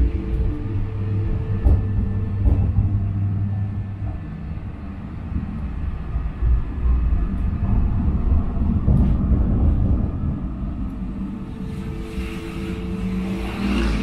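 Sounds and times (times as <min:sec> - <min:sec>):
tram wheels and motors rumbling: 0:00.0 - 0:14.0.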